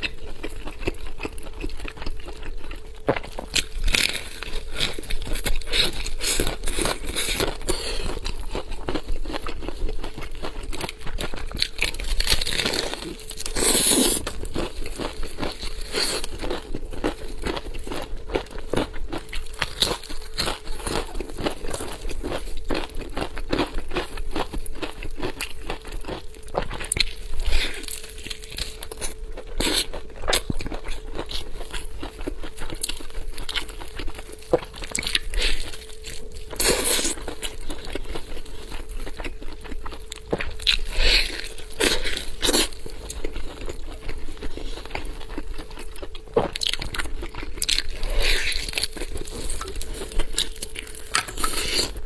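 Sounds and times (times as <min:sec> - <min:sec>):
close-miked chewing and biting: 0:00.0 - 0:52.0.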